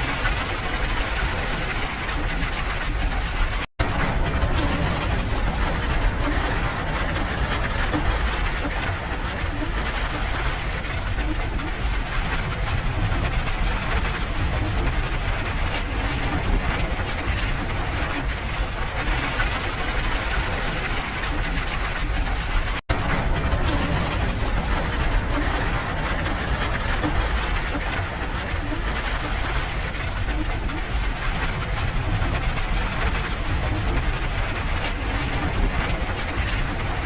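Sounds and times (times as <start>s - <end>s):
steady rain: 0.0s - 37.0s
low rumble: 0.7s - 37.0s.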